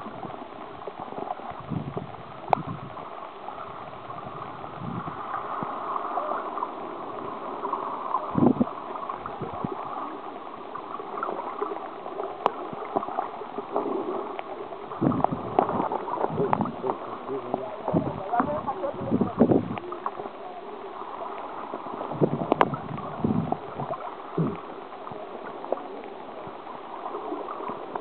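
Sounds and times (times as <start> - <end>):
muffled underwater water wash: 0.0 - 28.0.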